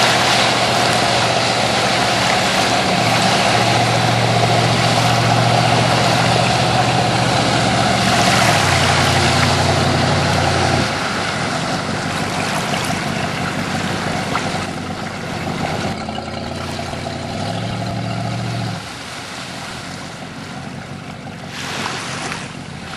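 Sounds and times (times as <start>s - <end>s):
rushing water and wind: 0.0s - 22.9s
speedboat engine running: 0.0s - 22.9s.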